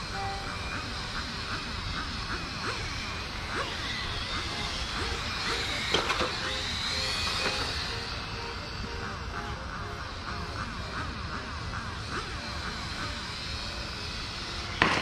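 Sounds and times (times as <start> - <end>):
rc car motors whining: 0.0 - 15.0.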